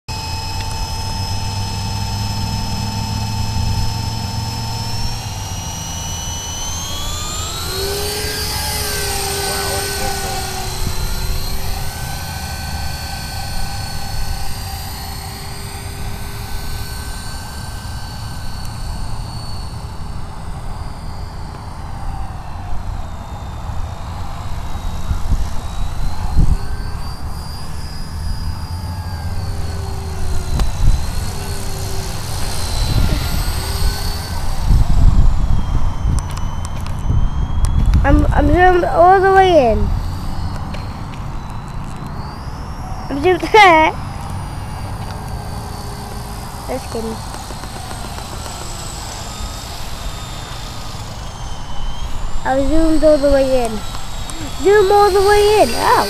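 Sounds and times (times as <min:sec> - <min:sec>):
toy helicopter rotors whining: 0:00.1 - 0:56.0.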